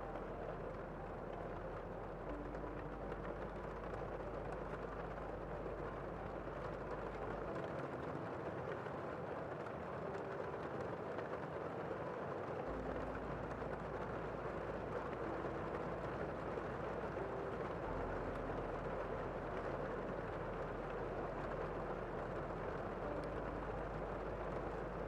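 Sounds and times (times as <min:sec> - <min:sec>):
muffled rain hiss: 0:00.0 - 0:25.0
raindrop ticks: 0:00.0 - 0:25.0.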